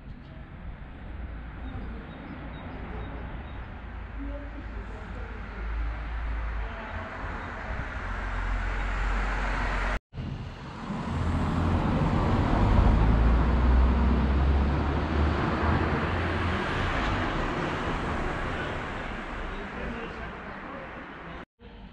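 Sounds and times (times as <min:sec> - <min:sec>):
low traffic rumble: 0:00.0 - 0:21.9
car driving past: 0:03.2 - 0:21.4.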